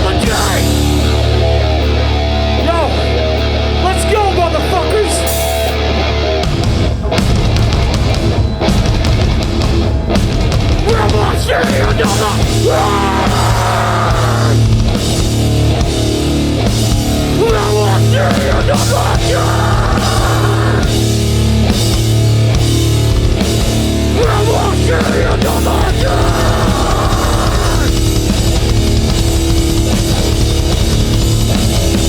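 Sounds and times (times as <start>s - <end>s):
bass guitar: 0.0s - 32.0s
distorted guitars: 0.0s - 32.0s
pounding drum kit: 0.0s - 32.0s.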